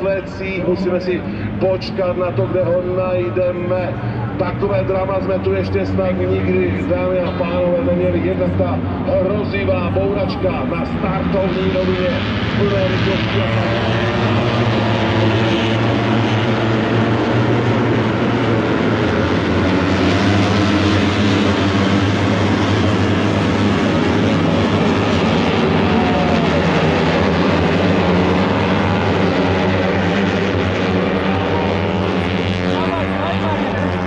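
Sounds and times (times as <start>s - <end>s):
racing motorcycles droning: 0.0s - 34.0s
motorcycles passing by: 5.8s - 34.0s.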